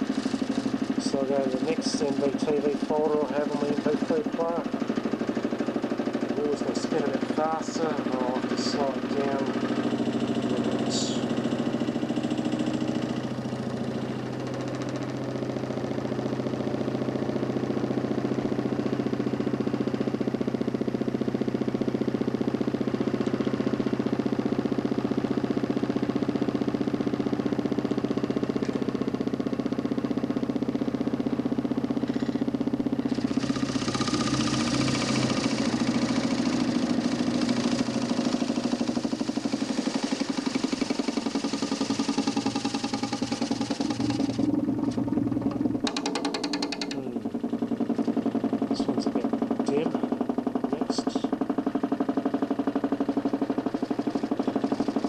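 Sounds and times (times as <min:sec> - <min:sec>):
motor spinning disc humming: 0:00.0 - 0:55.0.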